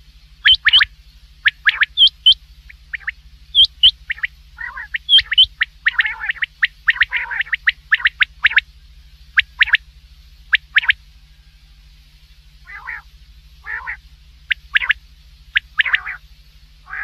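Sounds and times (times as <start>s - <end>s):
faint low hum: 0.0s - 17.0s
quail calling: 0.4s - 8.7s, 9.3s - 9.8s, 10.5s - 11.0s, 12.6s - 17.0s.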